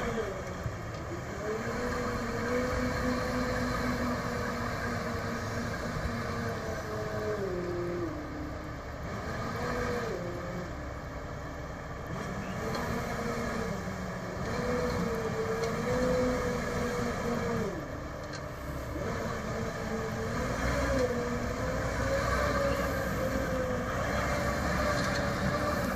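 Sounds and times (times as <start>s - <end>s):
off-road vehicle engine revving: 0.0s - 25.9s.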